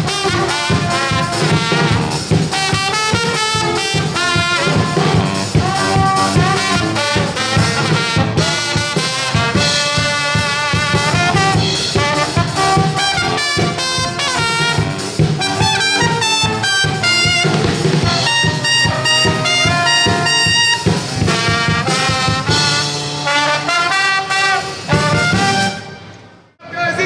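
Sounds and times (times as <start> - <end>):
brass band playing: 0.0 - 26.5.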